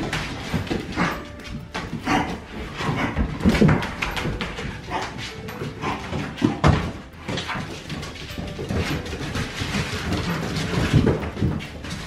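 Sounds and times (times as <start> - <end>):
dogs scuffling: 0.0 - 12.0.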